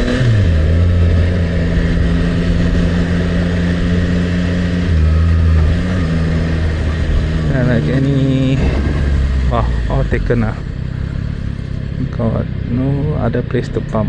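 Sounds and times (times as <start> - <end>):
motorcycle engine slowing: 0.0 - 14.0.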